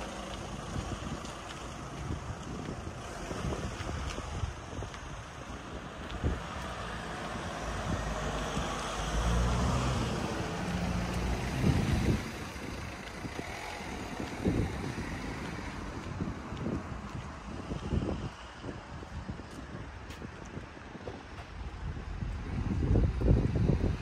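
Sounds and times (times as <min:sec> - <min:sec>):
passing motor vehicle: 0:00.0 - 0:24.0
wind buffeting microphone: 0:00.0 - 0:24.0.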